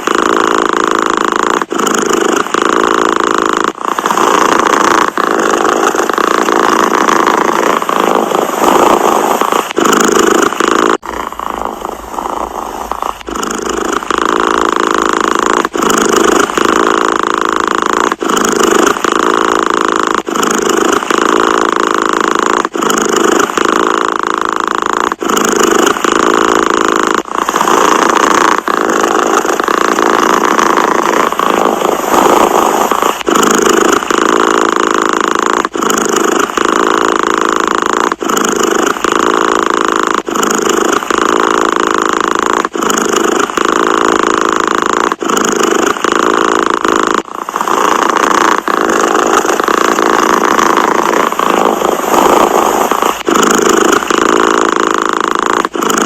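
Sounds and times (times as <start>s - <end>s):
cat purring loudly: 0.0s - 56.0s.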